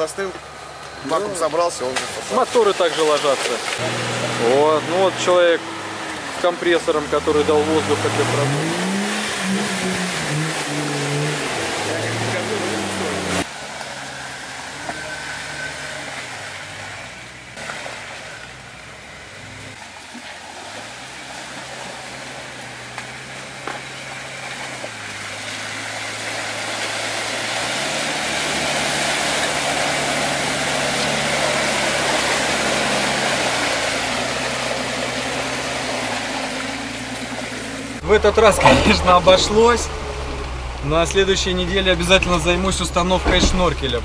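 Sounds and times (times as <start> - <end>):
car engine running at low revs: 0.0 - 19.9, 20.7 - 44.0
water rushing and splashing: 0.0 - 44.0.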